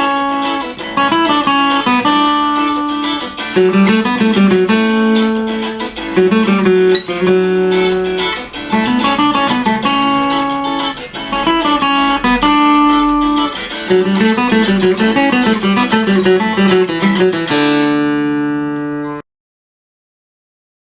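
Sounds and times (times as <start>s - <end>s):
acoustic guitar picking chords: 0.0s - 19.2s.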